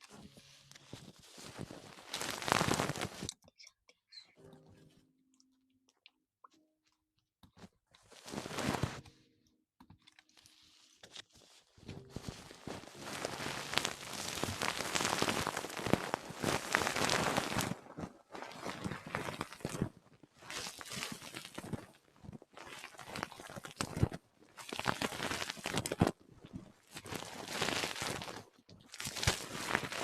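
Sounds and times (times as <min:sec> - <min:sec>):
crinkly rustling: 0:00.0 - 0:03.4, 0:07.4 - 0:09.2, 0:09.9 - 0:30.0.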